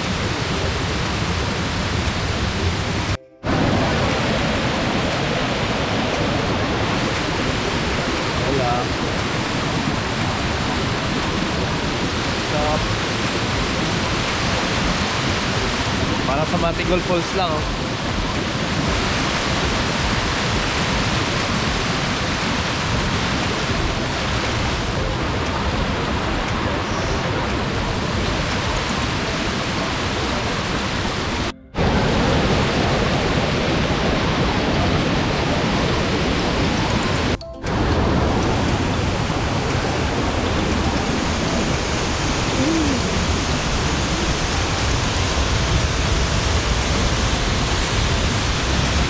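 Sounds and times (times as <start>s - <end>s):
water rushing over boulders: 0.0s - 49.0s.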